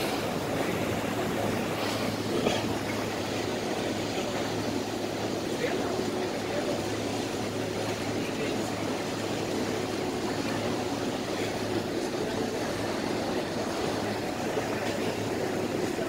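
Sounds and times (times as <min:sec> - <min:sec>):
ferry engine droning: 0:00.0 - 0:16.0
rushing water noise: 0:00.0 - 0:16.0.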